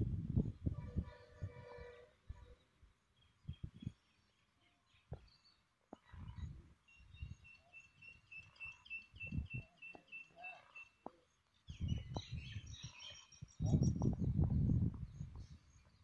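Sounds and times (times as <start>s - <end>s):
bird chirping: 2.4s - 16.0s.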